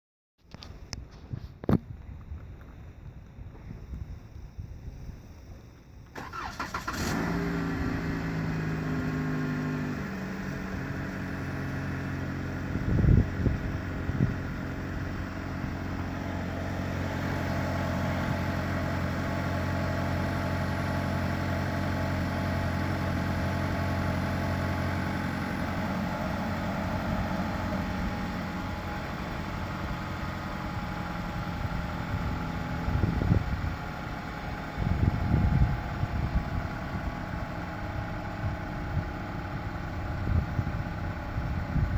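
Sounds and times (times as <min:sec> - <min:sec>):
car engine idling: 0:06.0 - 0:41.9.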